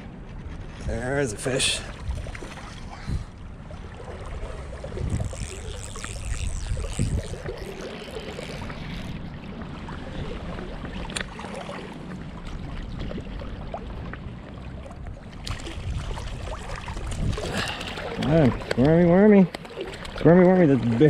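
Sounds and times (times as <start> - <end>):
river water running and splashing: 3.6 - 21.0.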